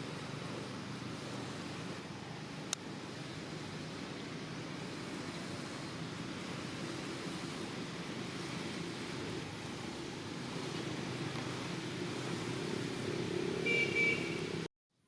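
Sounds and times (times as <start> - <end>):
low rumble of traffic: 0.0 - 14.7.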